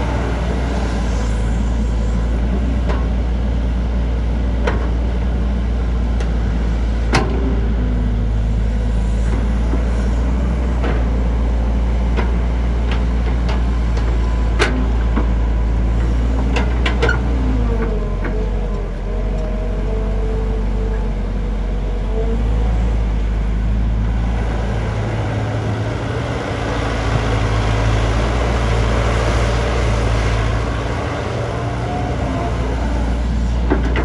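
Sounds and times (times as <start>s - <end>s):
excavator diesel engine digging: 0.0s - 34.0s.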